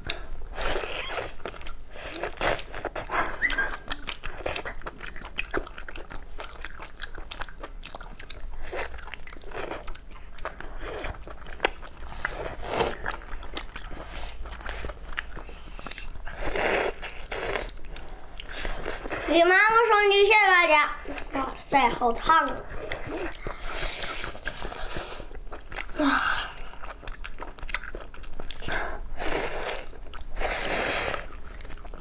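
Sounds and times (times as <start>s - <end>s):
chewing: 0.0s - 32.0s.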